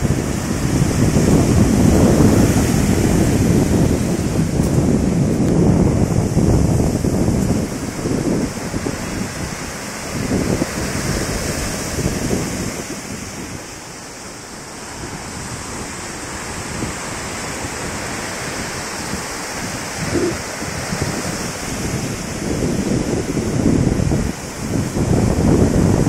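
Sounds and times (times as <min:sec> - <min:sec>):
sea surf breaking: 0:00.0 - 0:26.0
wind buffeting microphone: 0:00.0 - 0:26.0.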